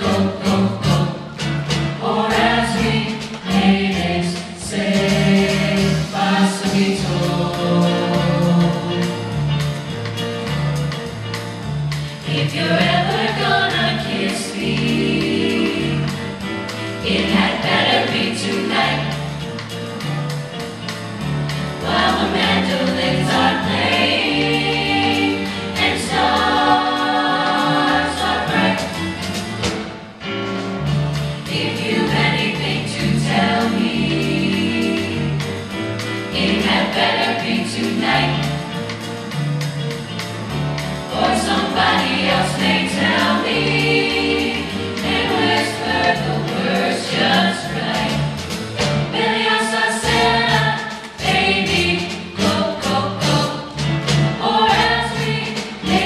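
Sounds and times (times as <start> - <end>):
mixed choir singing: 0.0 - 9.4, 12.2 - 19.6, 21.8 - 29.9, 31.4 - 38.8, 41.0 - 56.0
piano accompaniment: 0.0 - 56.0.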